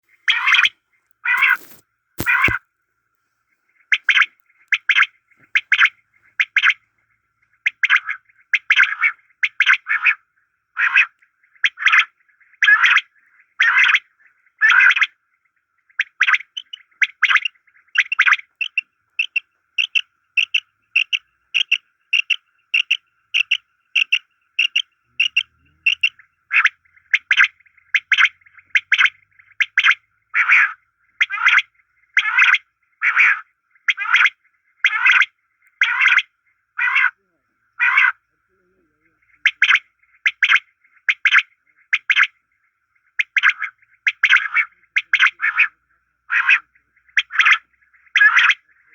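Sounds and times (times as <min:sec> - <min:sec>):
quail calling: 0:00.1 - 0:02.6, 0:03.7 - 0:10.2, 0:10.8 - 0:15.2, 0:15.9 - 0:42.4, 0:43.0 - 0:48.9.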